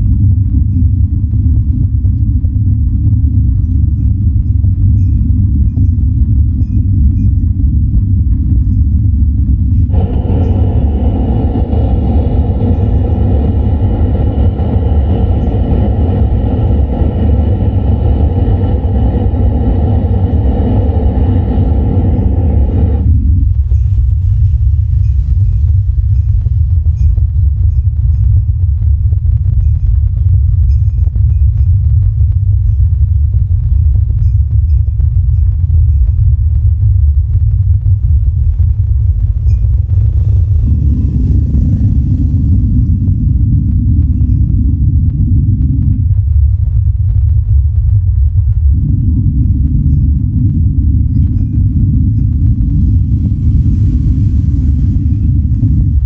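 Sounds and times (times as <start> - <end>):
deep bass from subwoofers: 0.0 - 56.0
faint distorted haze: 0.0 - 56.0
higher bass layer: 0.0 - 56.0.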